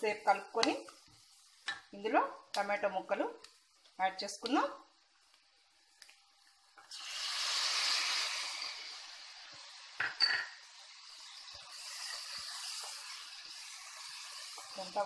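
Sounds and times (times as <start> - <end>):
tomatoes sizzling in hot oil: 0.0 - 15.0.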